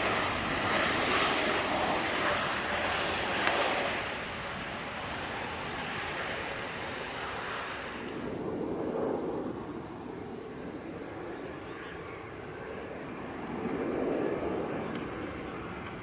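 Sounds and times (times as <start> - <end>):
distant jet engine rushing: 0.0 - 16.0
high hiss: 0.0 - 16.0.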